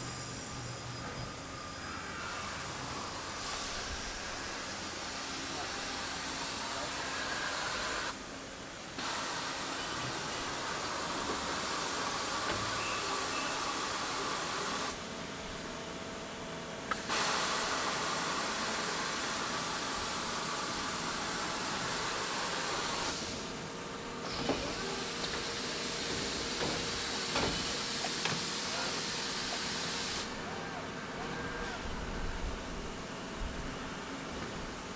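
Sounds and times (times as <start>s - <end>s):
hissing factory machine noise: 0.0s - 34.9s.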